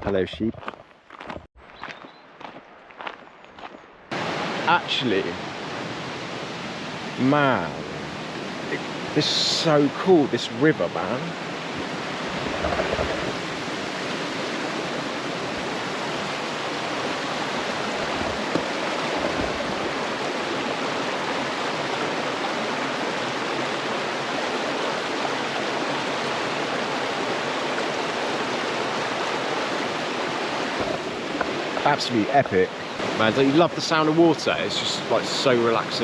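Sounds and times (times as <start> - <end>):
river rushing: 4.1 - 36.0.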